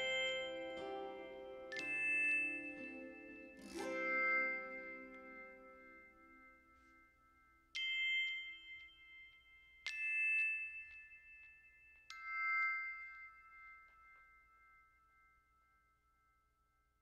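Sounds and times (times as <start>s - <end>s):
soft chime-like notes: 0.0s - 17.0s.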